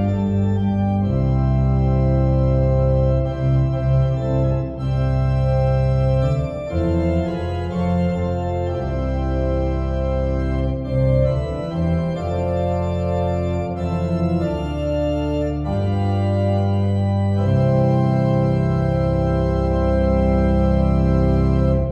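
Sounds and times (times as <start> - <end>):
organ chords: 0.0 - 21.9.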